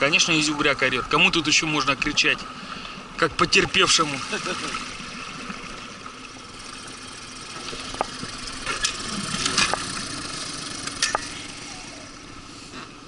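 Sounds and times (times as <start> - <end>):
outboard motor humming: 0.0 - 13.0
water and air rushing: 0.0 - 13.0.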